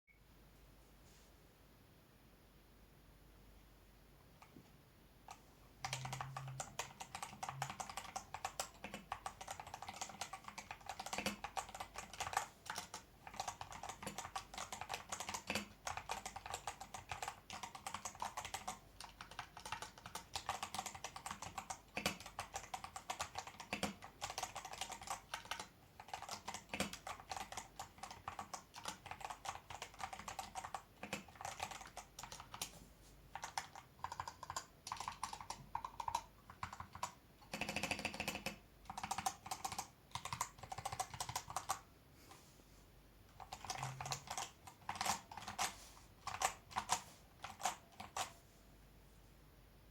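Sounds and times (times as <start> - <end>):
mechanical keyboard typing: 5.3 - 41.9, 43.3 - 48.4.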